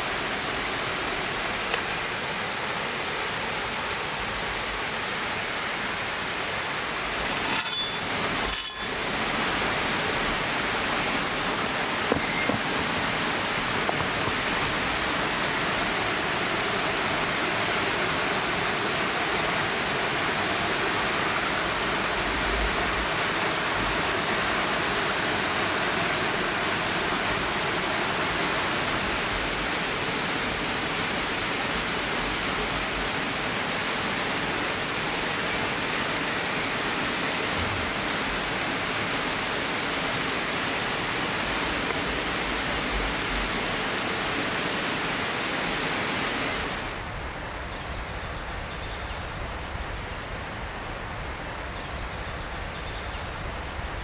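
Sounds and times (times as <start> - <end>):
flowing water rushing: 0.0 - 47.7.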